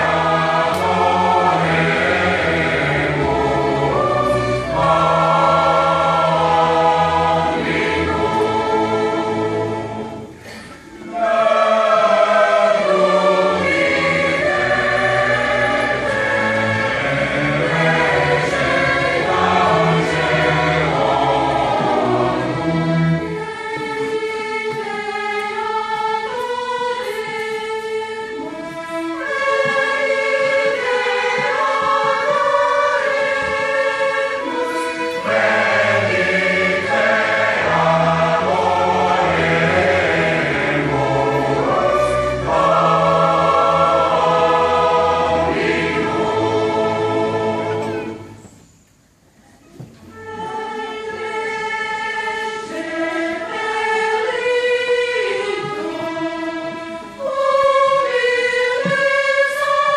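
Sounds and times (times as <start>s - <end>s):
choir singing held chords: 0.0s - 48.7s, 50.1s - 59.9s.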